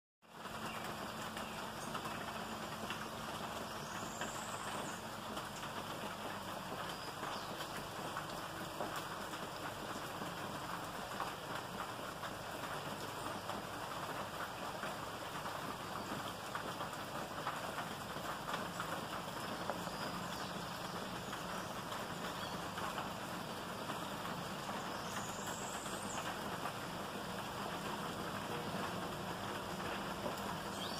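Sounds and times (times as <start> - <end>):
steady rain on lawn and trees: 0.2 - 30.9.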